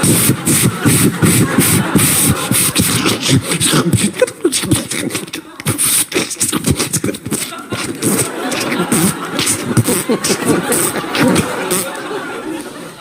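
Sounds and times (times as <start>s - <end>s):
man making mouth sound effects: 0.0s - 12.1s.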